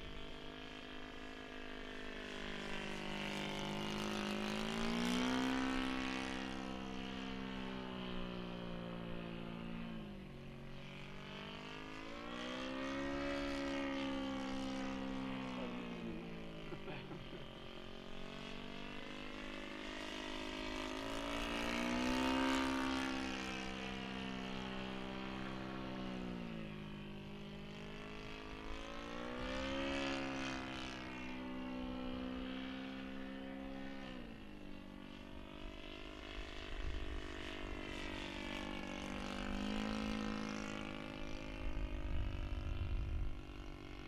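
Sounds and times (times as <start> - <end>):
model airplane engine in flight: 0.0 - 44.0.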